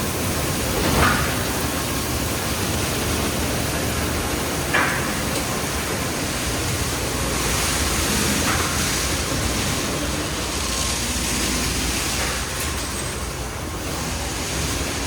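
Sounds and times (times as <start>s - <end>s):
water jets spraying: 0.0s - 15.0s.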